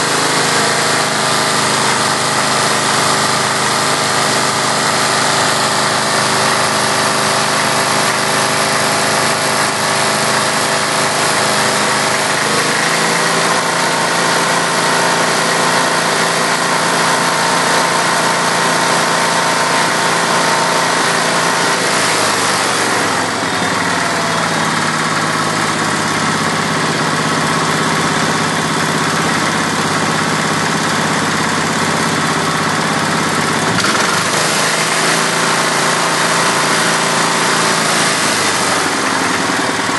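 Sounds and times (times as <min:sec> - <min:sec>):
single-cylinder engine rattling: 0:00.0 - 0:39.9.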